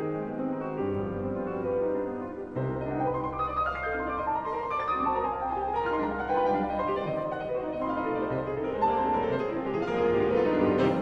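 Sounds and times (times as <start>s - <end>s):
instrumental music with piano: 0.0s - 11.0s.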